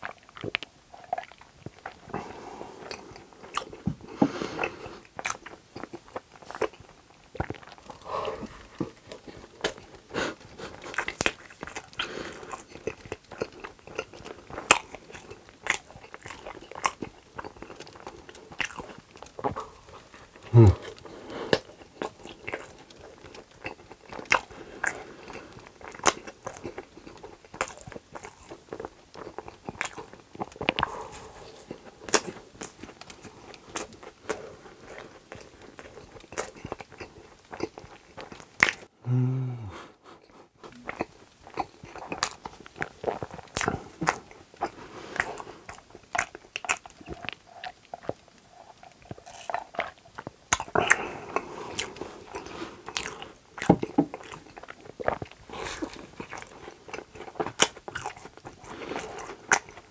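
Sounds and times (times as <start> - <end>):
chewing soft donut: 0.0 - 59.9.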